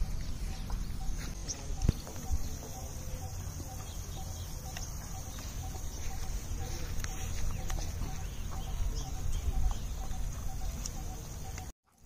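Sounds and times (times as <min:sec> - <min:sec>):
bird repeating low note: 0:00.0 - 0:11.7
steady low rumble: 0:00.0 - 0:11.7.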